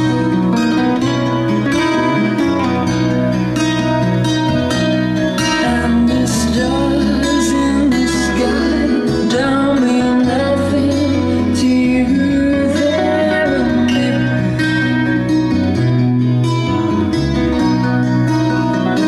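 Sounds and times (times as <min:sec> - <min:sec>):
recorded music over loudspeakers: 0:00.0 - 0:19.0.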